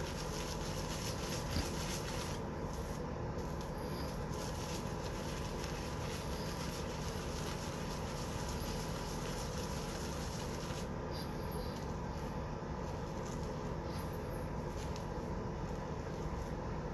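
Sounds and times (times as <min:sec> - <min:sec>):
steady background hiss: 0:00.0 - 0:16.9.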